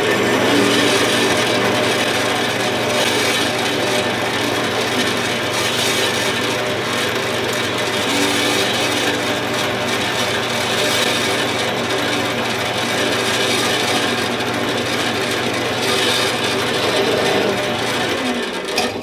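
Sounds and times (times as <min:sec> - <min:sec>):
motor hum: 0:00.0 - 0:19.0.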